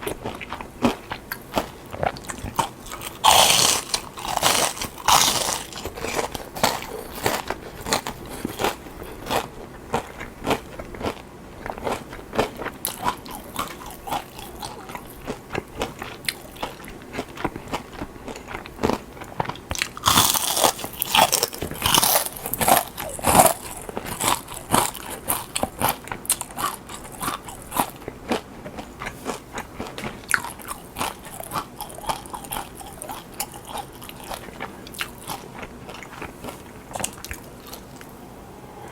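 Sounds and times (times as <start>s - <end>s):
person crunching and chewing food: 0.0s - 38.9s.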